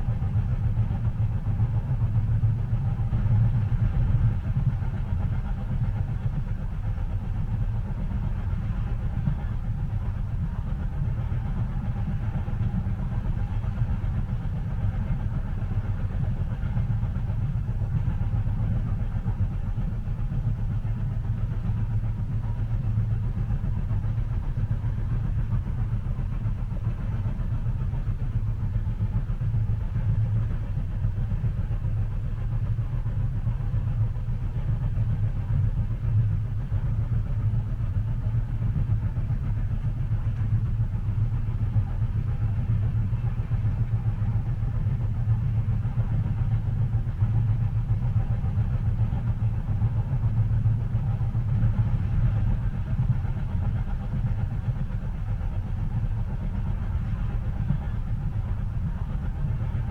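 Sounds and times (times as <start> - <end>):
train rumble inside passenger car: 0.0 - 59.9.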